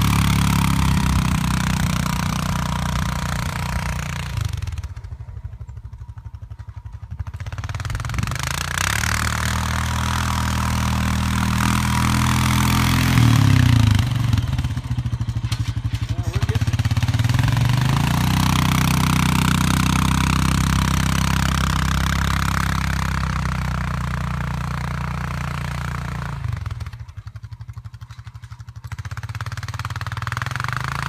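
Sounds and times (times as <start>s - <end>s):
atv engine pushing snow plow: 0.0s - 31.0s.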